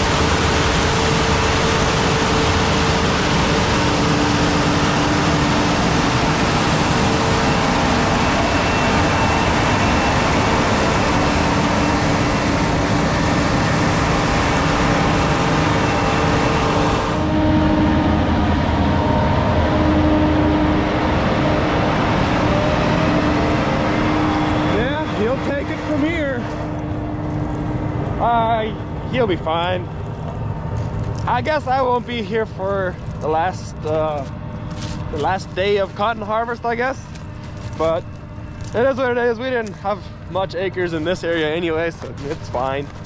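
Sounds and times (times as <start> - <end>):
vehicle mechanical hum: 0.0 - 43.0.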